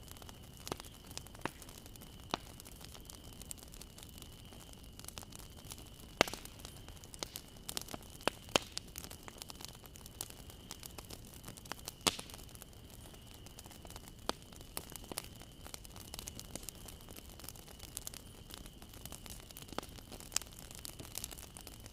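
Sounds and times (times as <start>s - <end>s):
fire hissing: 0.0s - 21.9s
wood fire crackling and popping: 0.0s - 21.9s.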